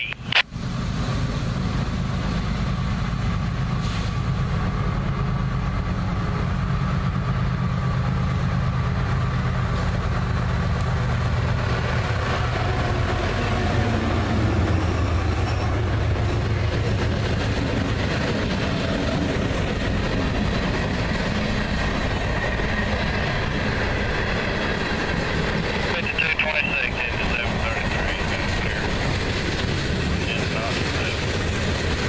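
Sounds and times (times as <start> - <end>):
freight train passing: 0.0 - 32.0.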